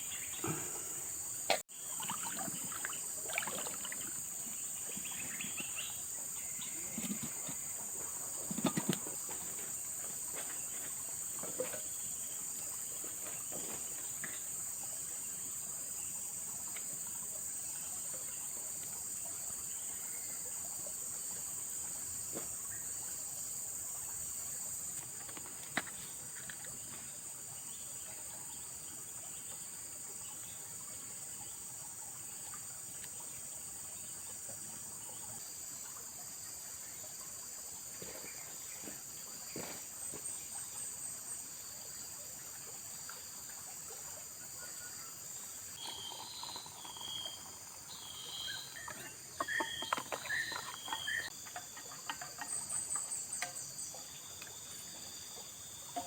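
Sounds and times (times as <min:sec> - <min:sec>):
droning chorus of forest insects: 0:00.0 - 0:56.0.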